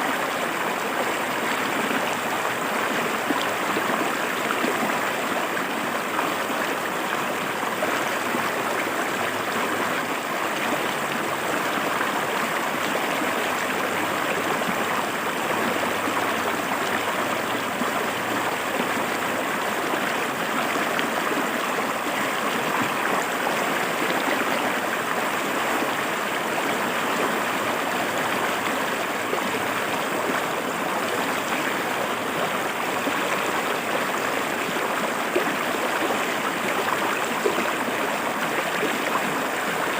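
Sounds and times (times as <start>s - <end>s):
river water splashing over rocks: 0.1s - 39.9s.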